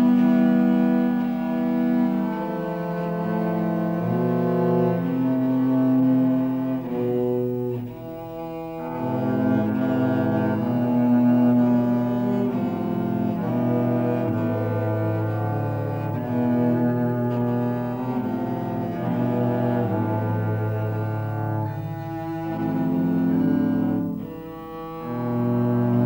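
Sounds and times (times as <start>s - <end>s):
cellos playing bowed chords: 0.0s - 26.0s.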